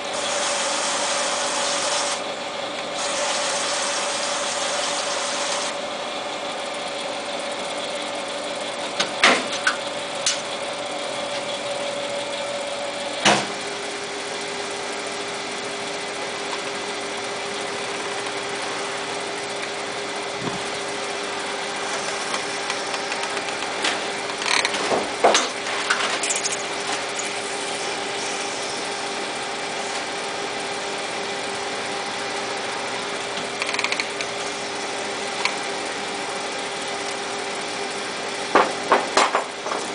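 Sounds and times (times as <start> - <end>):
lathe humming: 0.0 - 9.1, 9.8 - 39.6.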